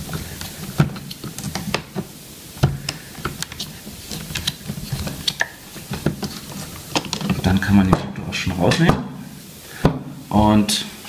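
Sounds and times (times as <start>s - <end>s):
handling noise metal on plastic: 0.0s - 9.1s.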